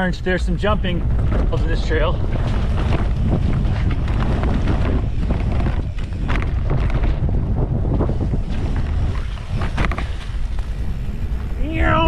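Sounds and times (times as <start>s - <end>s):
bike and trail rattle: 0.0s - 12.0s
wind buffeting microphone: 0.0s - 12.0s.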